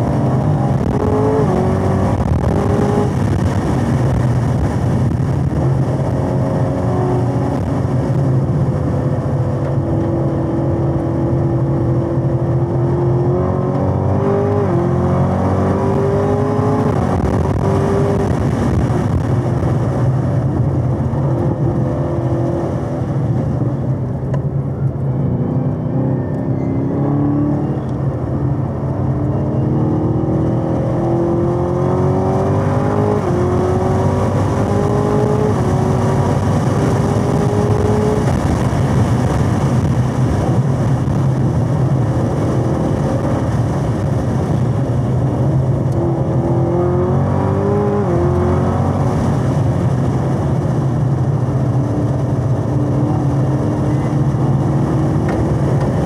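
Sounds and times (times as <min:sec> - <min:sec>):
car engine revving: 0:00.0 - 0:56.0
tyre and wind noise: 0:00.0 - 0:56.0.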